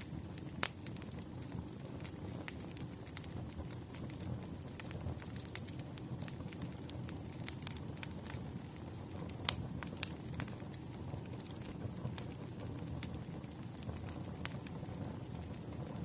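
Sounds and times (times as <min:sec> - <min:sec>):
fire pops and snaps: 0:00.0 - 0:16.0
wood fire crackling: 0:00.0 - 0:16.0.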